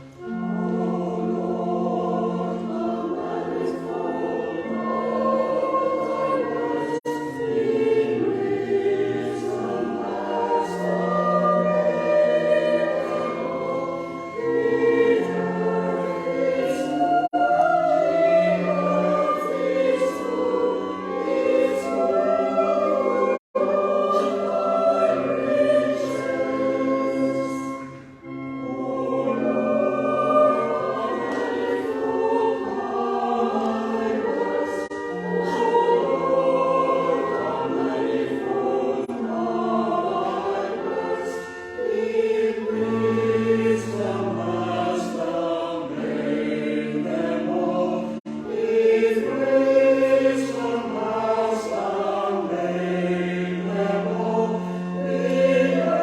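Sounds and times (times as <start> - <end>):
choir and congregation singing hymn: 0.0 - 56.0.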